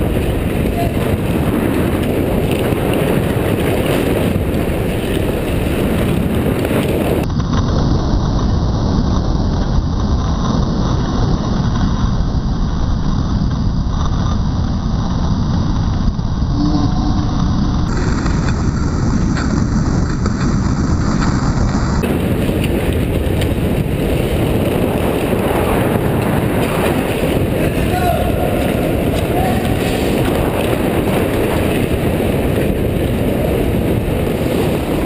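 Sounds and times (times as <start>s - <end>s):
wind rush on microphone: 0.0s - 35.0s.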